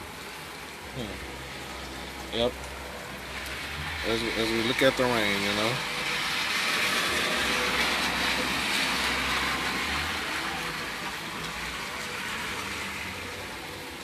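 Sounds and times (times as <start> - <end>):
hard rain falling: 0.0 - 14.0.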